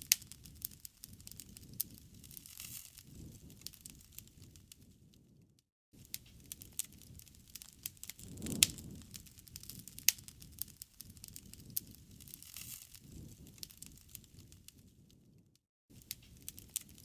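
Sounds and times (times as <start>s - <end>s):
burning wood popping: 0.0s - 5.4s, 6.0s - 15.4s, 16.0s - 17.0s
low rush of flame: 0.1s - 5.4s, 6.1s - 15.4s.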